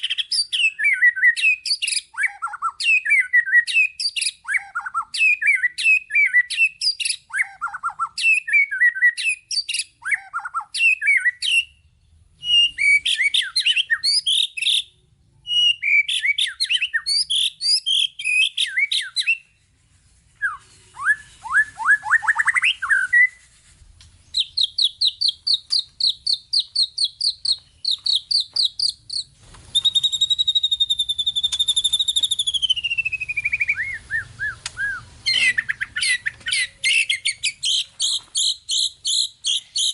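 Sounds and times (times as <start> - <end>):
bird singing varied song: 0.0 - 19.6, 20.4 - 23.4, 24.2 - 39.9.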